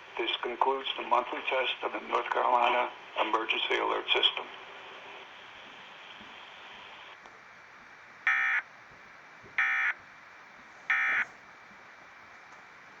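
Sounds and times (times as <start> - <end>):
faint broadcast hiss: 0.0 - 13.0.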